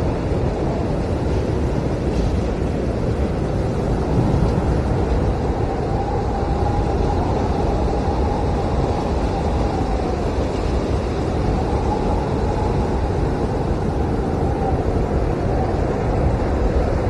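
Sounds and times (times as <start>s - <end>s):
howling wind whistle: 0.0s - 17.0s
strong wind rumbling: 0.0s - 17.0s.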